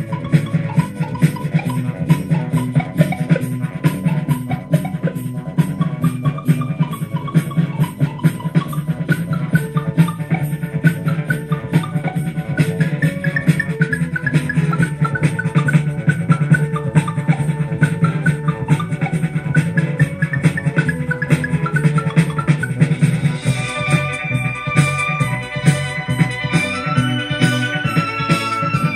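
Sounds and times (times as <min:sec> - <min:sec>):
music with drums and shaker: 0:00.0 - 0:28.9.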